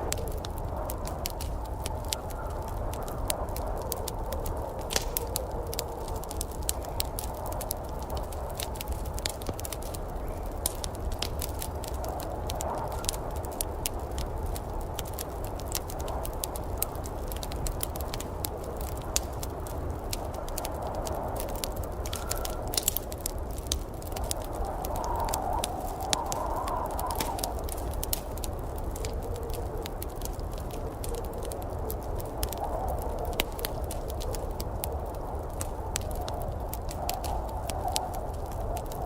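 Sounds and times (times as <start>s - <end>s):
storm rumble: 0.0s - 39.0s
wood fire crackling and popping: 0.0s - 39.0s.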